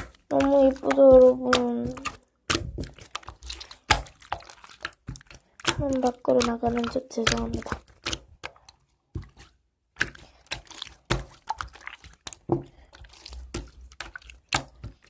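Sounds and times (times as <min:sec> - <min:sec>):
slime squishing in plastic container: 0:00.0 - 0:15.0.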